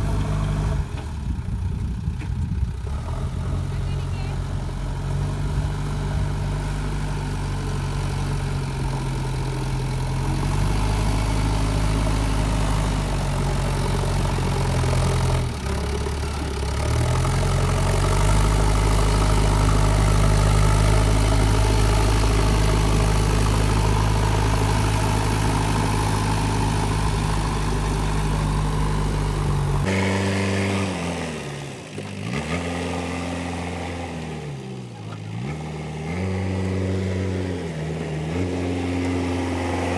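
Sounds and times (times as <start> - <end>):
engine revving: 0.0 - 1.3, 2.6 - 39.9
diesel engine running under load: 0.0 - 39.9.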